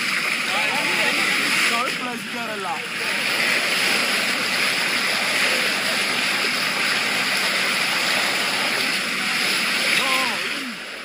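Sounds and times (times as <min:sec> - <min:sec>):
water rushing along boat bow: 0:00.0 - 0:11.0.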